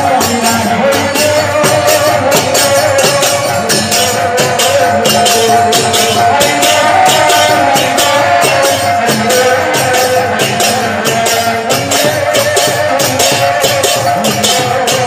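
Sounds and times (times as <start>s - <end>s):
drum: 0.0s - 15.0s
hand cymbals struck fast: 0.0s - 15.0s.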